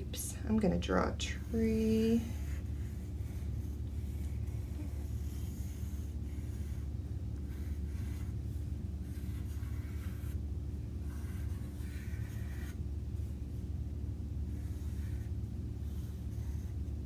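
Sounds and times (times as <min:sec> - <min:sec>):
steady low hum: 0:00.0 - 0:17.0
pencil scratching on paper: 0:01.3 - 0:10.4, 0:11.0 - 0:13.6, 0:14.5 - 0:17.0.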